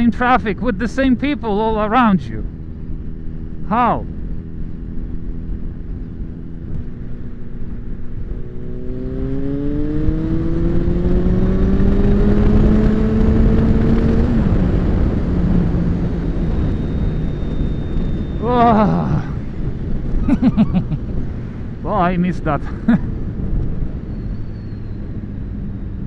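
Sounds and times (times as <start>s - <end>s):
rushing wind noise: 0.0s - 26.0s
motorcycle engine accelerating: 1.1s - 26.0s.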